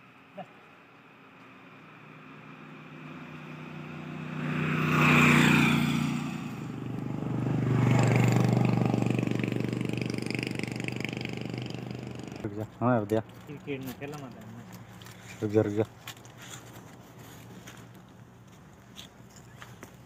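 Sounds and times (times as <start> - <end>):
motor vehicles passing: 0.0 - 20.0.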